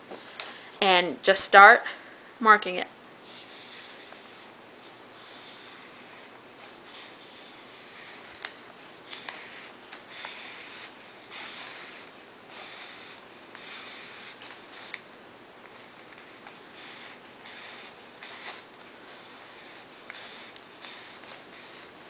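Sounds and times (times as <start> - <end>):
marker scratching on paper: 3.2 - 22.0.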